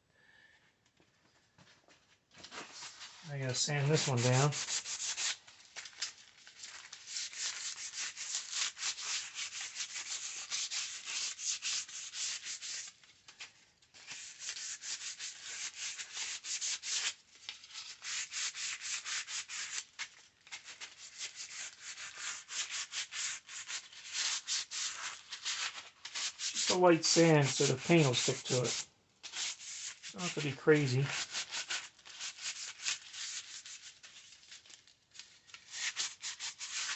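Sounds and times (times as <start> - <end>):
sandpaper rubbing: 2.6 - 5.4, 6.9 - 13.0, 14.0 - 34.2, 35.6 - 36.9.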